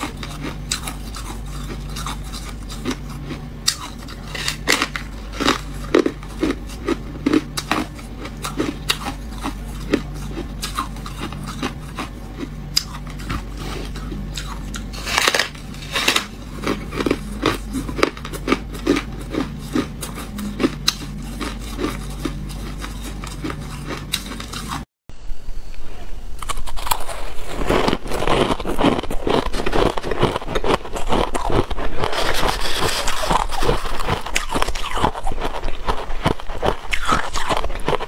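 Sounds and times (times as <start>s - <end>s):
chewing crunchy frost: 0.0s - 24.9s, 26.4s - 38.0s
crushed ice being eaten: 0.0s - 24.9s, 26.4s - 38.0s
low steady hum: 0.0s - 38.0s.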